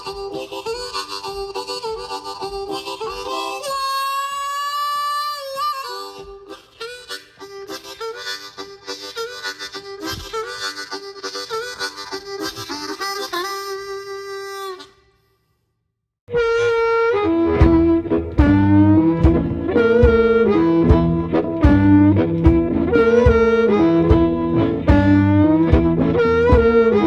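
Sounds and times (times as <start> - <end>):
harmonica playing blues riff: 0.0 - 15.3, 16.3 - 27.0.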